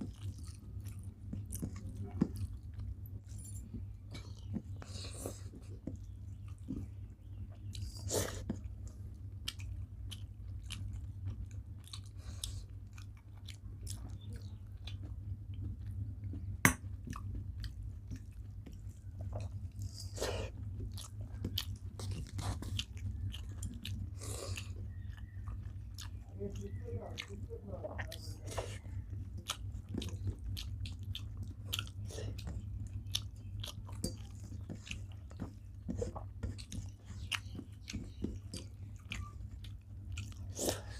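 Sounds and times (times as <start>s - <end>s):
chewing with wet mouth sounds: 0.0s - 40.9s
steady low hum: 0.0s - 40.9s.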